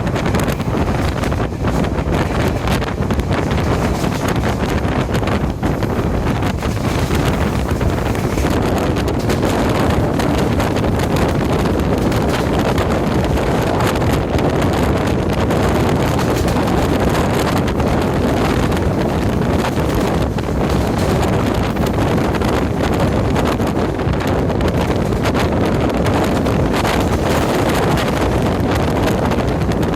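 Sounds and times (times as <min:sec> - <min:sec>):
train running at speed: 0:00.0 - 0:29.9
wind buffeting microphone: 0:00.0 - 0:29.9.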